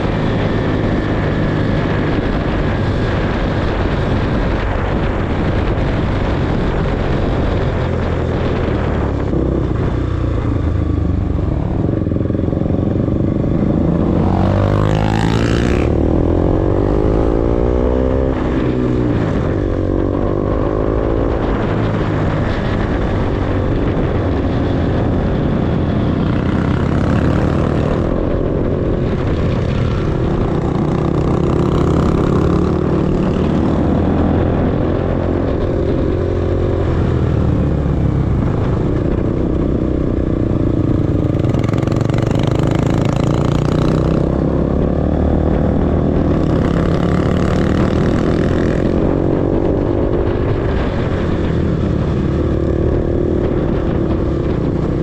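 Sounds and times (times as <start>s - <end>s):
motorcycle engine revving: 0.0s - 55.0s
wind rushing over microphone: 0.0s - 55.0s.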